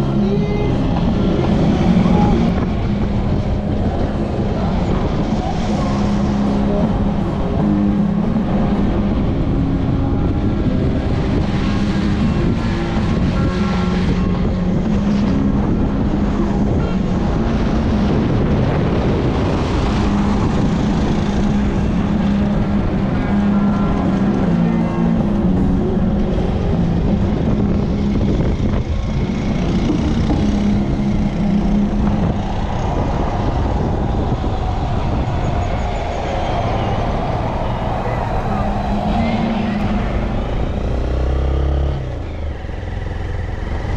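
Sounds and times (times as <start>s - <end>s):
small motorcycle engine running: 0.0s - 43.9s
wind noise: 0.0s - 43.9s.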